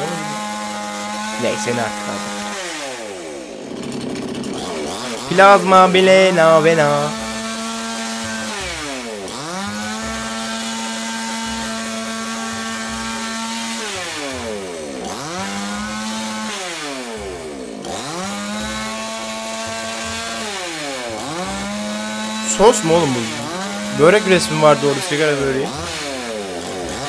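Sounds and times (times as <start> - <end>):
chainsaw revving: 0.0 - 27.0
chainsaw sawing cardboard box: 0.0 - 27.0.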